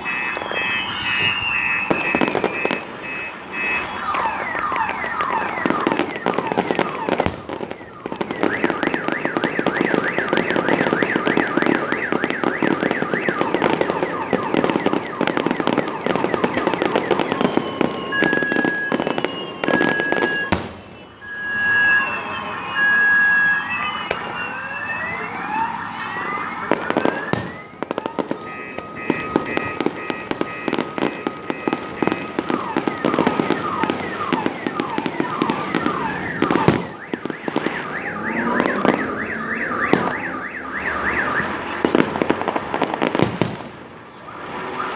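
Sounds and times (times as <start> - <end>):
car alarm beeping and wailing: 0.0 - 44.9
fireworks bangs: 0.0 - 44.9
fireworks crackling and popping: 0.0 - 44.9.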